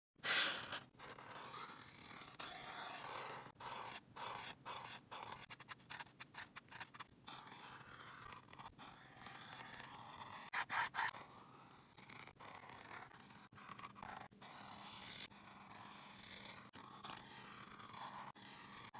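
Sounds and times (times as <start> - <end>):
drawing tip scraping paper: 0.2 - 18.9.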